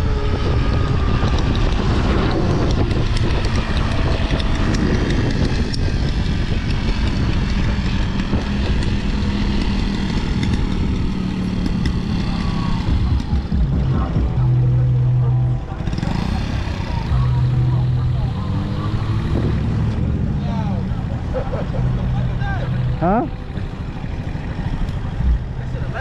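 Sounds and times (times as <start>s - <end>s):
road noise: 0.0s - 26.0s
small engine running: 0.0s - 26.0s
wind buffeting: 0.0s - 26.0s.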